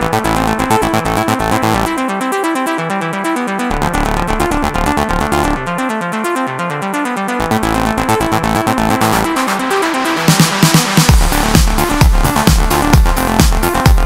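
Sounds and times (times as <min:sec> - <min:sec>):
deep stepping bass line: 0:00.0 - 0:02.2, 0:02.8 - 0:14.0
pulsing synthesizer chords: 0:00.0 - 0:14.0.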